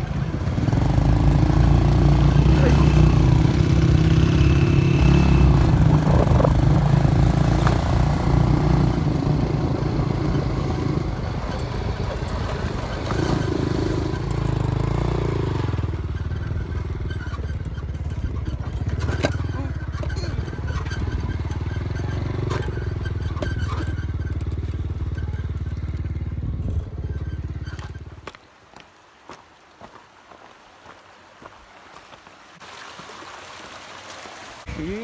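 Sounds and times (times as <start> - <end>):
motorcycle engine running: 0.0 - 28.3.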